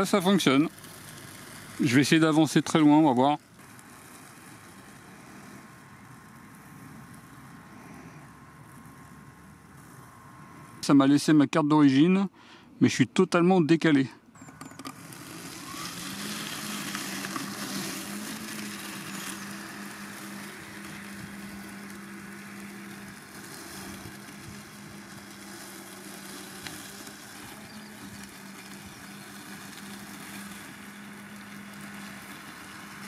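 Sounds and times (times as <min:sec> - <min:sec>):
robotic mower motor hum: 0:00.0 - 0:11.5, 0:14.4 - 0:33.0
soft hiss: 0:00.0 - 0:13.0, 0:13.9 - 0:33.0.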